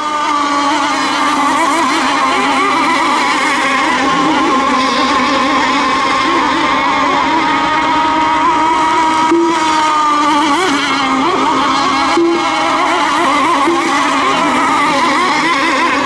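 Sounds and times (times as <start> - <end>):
racing boat engines whining: 0.0 - 16.0.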